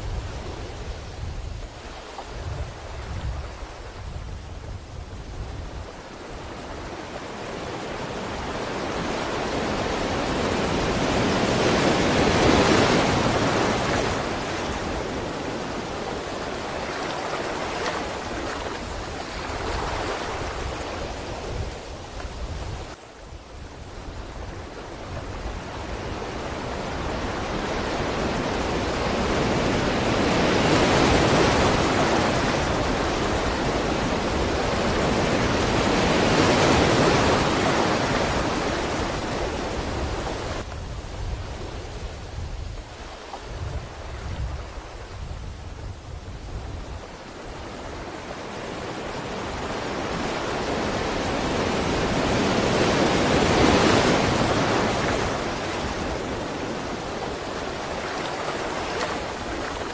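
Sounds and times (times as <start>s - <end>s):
ocean waves washing on shore: 0.0s - 59.9s.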